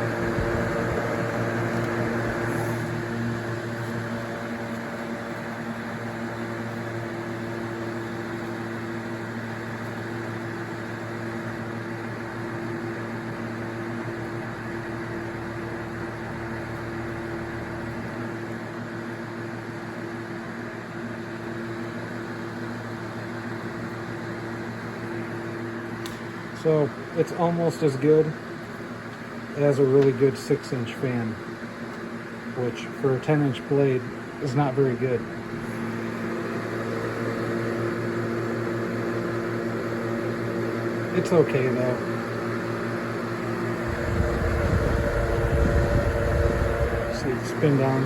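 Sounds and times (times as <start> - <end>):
table fan running: 0.0 - 48.0.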